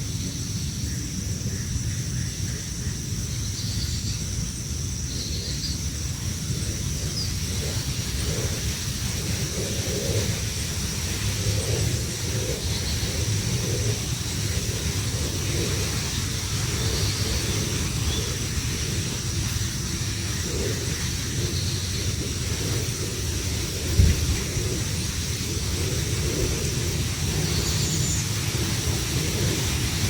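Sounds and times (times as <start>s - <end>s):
high hiss: 0.0s - 30.0s
low rumbling: 0.0s - 30.0s.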